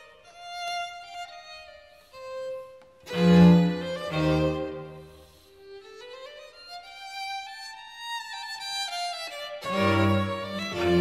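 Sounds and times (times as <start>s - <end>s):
slow rising violin line: 0.4s - 11.0s.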